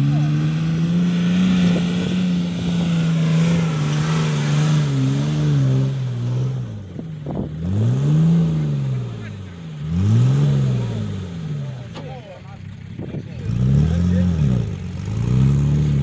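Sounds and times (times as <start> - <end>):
suv engine revving: 0.0 - 16.0.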